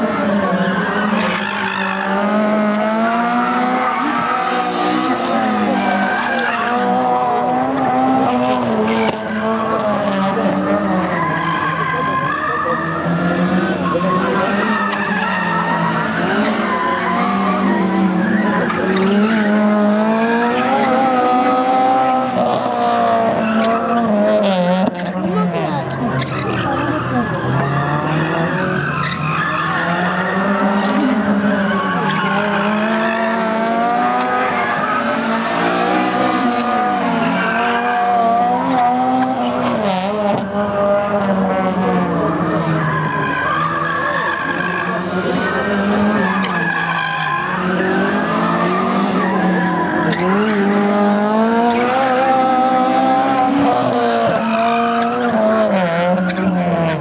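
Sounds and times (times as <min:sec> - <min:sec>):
race car engines revving: 0:00.0 - 0:57.0
tyres skidding: 0:00.0 - 0:57.0.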